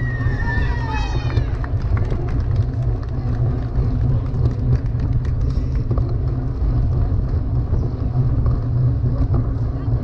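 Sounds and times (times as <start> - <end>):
mountain bike riding rumble: 0.0 - 10.0
bike clicks and rattles: 1.6 - 9.9.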